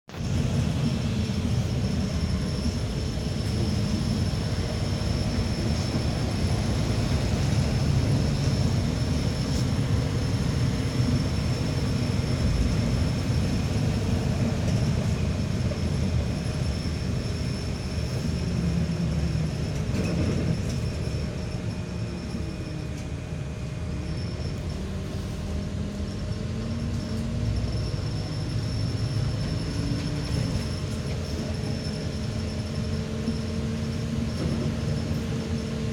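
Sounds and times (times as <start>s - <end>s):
bus drivetrain whine: 0.1s - 35.9s
bus road rumble: 0.1s - 35.9s.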